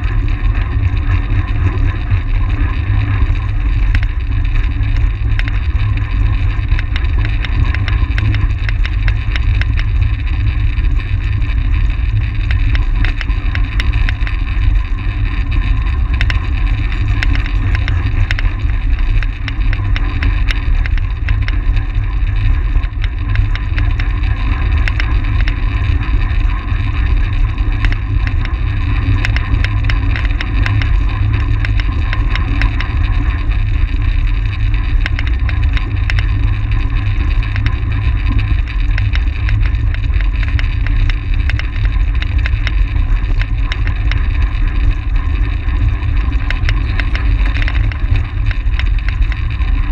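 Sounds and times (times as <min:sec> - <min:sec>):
fine crackle of ticks: 0:00.0 - 0:49.9.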